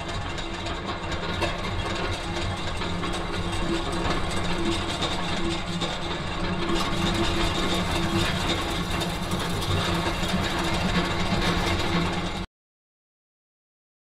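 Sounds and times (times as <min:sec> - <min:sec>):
grinding noise: 0:00.0 - 0:12.4
machinery drone with low hum: 0:00.0 - 0:12.4.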